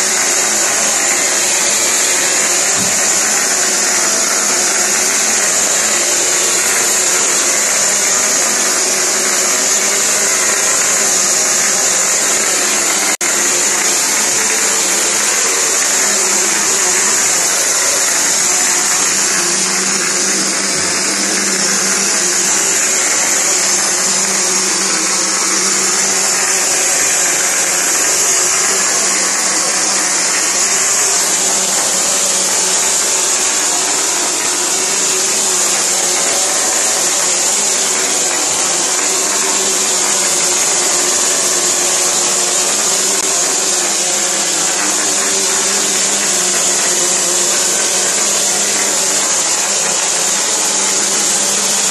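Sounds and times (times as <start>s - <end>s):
spray gun hissing compressed air: 0.0s - 51.9s.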